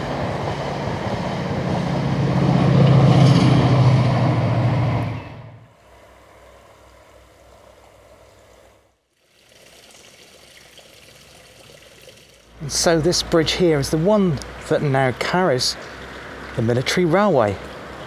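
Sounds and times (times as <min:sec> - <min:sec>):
faint outdoor background: 0:00.0 - 0:18.0.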